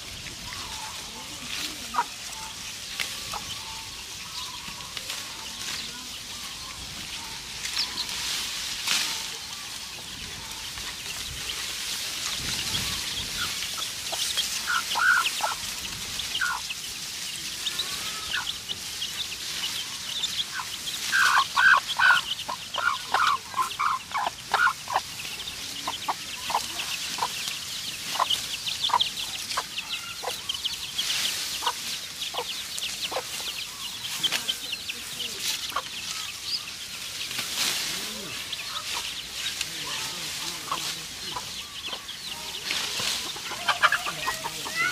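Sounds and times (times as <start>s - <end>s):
chicken clucking: 0.0s - 44.9s.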